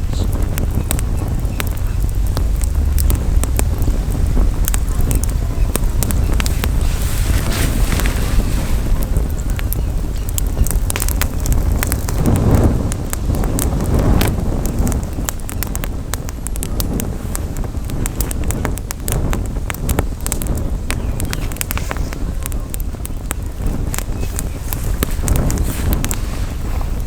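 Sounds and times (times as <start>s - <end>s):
campfire crackling and popping: 0.0s - 27.0s
wind buffeting microphone: 0.0s - 27.0s.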